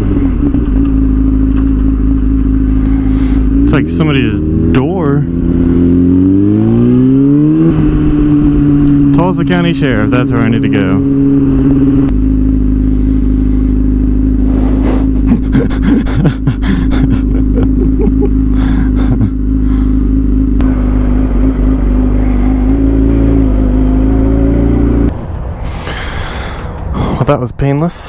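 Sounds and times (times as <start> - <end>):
motorcycle engine running: 0.0 - 27.1.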